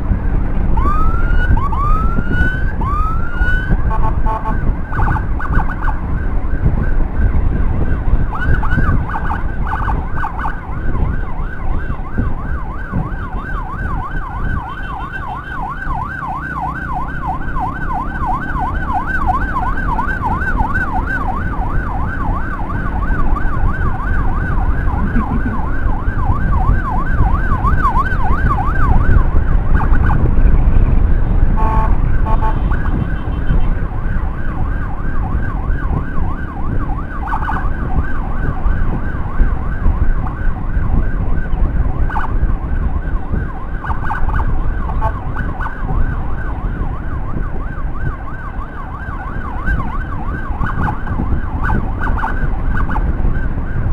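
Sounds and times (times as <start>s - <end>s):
motorcycle engine rumble: 0.0s - 53.9s
wind noise: 0.0s - 53.9s
electronic siren yelping: 0.8s - 6.9s, 7.8s - 30.3s, 31.6s - 53.9s.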